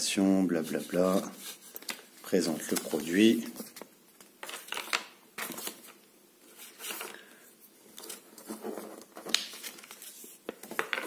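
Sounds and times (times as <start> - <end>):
paper leaflet rustling: 0.6 - 7.3, 7.9 - 11.0.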